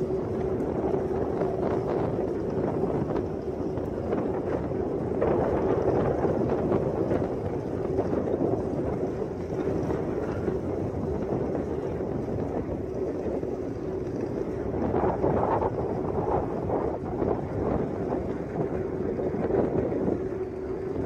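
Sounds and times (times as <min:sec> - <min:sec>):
wind rushing on microphone: 0:00.0 - 0:21.0.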